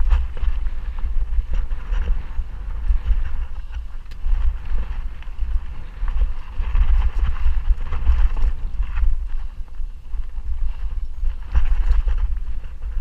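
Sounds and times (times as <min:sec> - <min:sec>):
bike tyres rumbling on trail: 0:00.0 - 0:13.0
wind buffeting microphone: 0:00.0 - 0:13.0.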